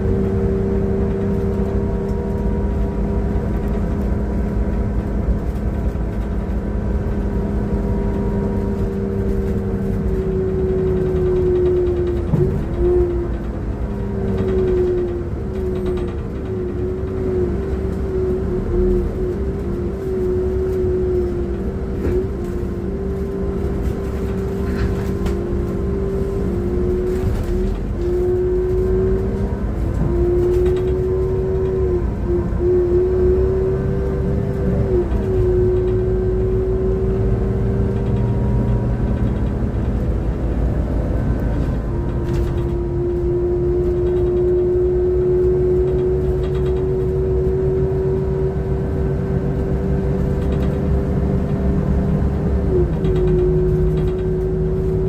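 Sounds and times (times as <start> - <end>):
bus engine whine: 0.0 - 55.0
low engine rumble: 0.0 - 55.0.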